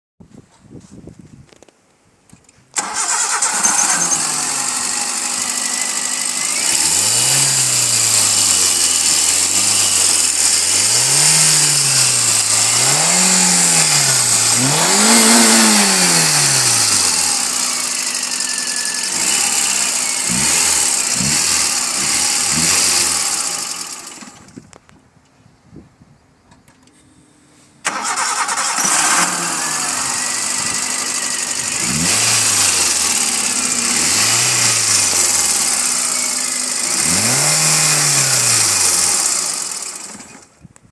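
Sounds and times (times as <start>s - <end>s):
car engine starting and revving: 2.8s - 24.6s, 27.8s - 40.6s.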